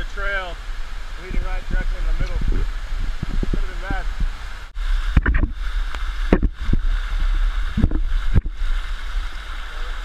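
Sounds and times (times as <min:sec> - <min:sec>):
waterfall rushing over rock: 0:00.0 - 0:10.0.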